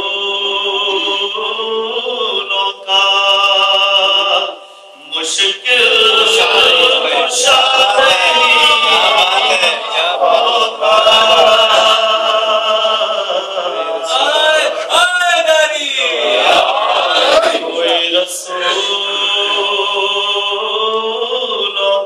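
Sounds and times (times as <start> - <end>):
man singing into a microphone: 0.0 - 15.0, 17.7 - 22.0.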